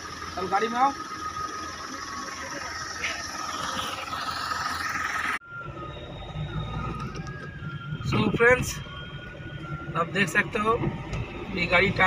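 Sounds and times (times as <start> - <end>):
constant high tone: 0.0 - 12.0
diesel engine idling: 0.0 - 12.0
low rumble of car driving: 0.0 - 12.0.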